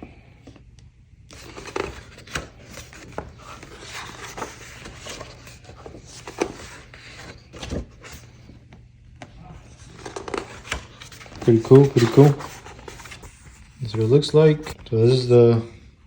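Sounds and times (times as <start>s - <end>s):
paper rustling: 1.3s - 8.6s, 9.2s - 15.1s.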